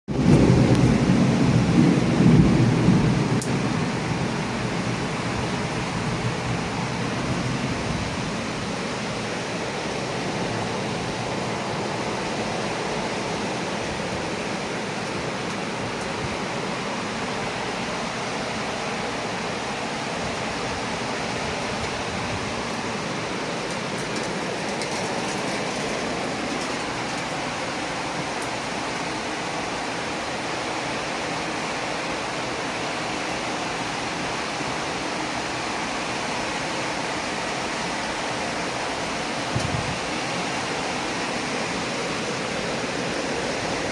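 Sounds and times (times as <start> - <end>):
heavy rain pouring: 0.1 - 43.9.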